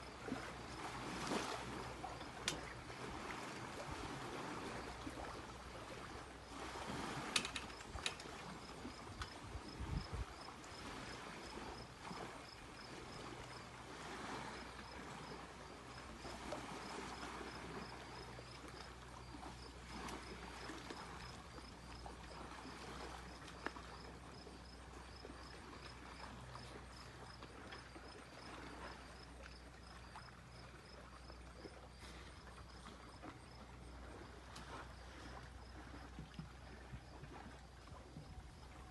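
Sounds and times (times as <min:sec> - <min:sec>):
waves lapping against shore: 0:00.0 - 0:38.9.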